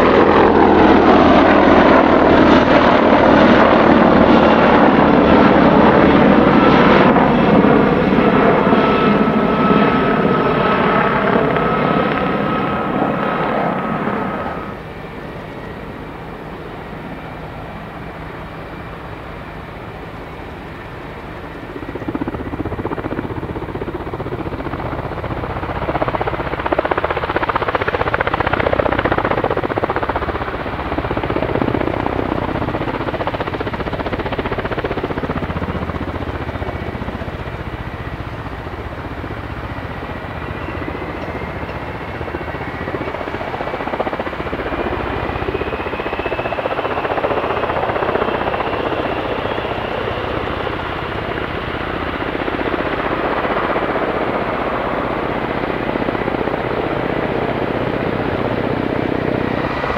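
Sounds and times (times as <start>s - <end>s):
helicopter flying past: 0.0s - 59.9s
helicopter rotors hovering: 0.0s - 59.9s
helicopter turbines running: 0.0s - 59.9s.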